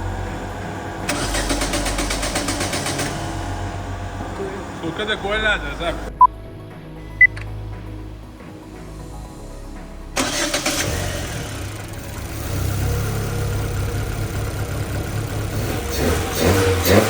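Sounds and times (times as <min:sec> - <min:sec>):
car engine starting and running: 0:00.0 - 0:06.5, 0:07.1 - 0:17.0.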